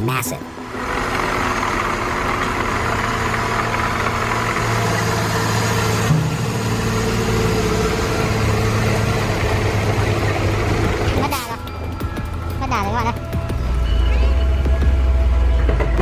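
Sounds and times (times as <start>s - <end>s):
heavy truck engine running: 0.5s - 16.0s.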